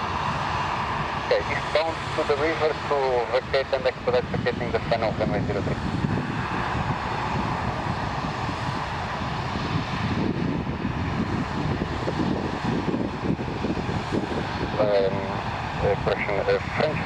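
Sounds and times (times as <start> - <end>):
airliner engines running: 0.0 - 17.0.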